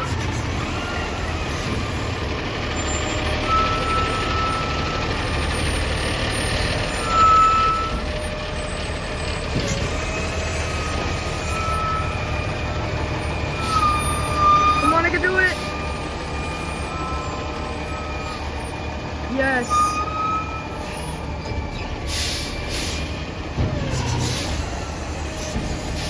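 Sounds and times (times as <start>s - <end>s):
garbage truck engine running: 0.0s - 26.0s.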